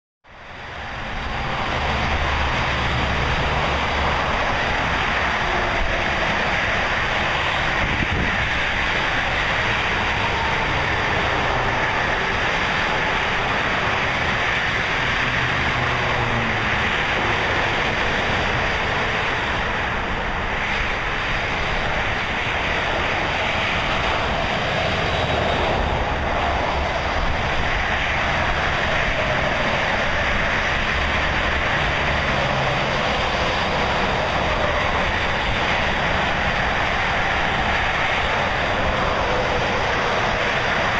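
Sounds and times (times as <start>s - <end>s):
highway traffic noise: 0.2s - 40.9s.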